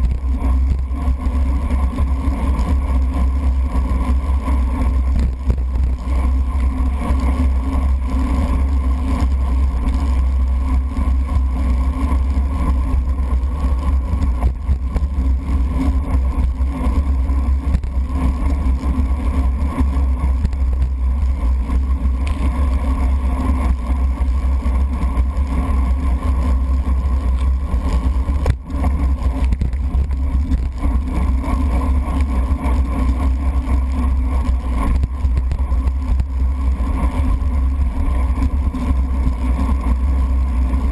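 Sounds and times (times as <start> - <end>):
bicycle road vibration: 0.0 - 40.9
wind rumble: 0.0 - 40.9.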